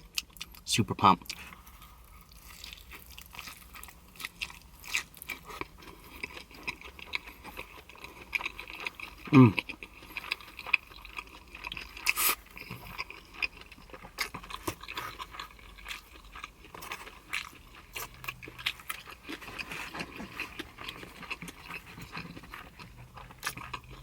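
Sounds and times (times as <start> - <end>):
person chewing food: 0.0 - 0.6, 1.2 - 24.0.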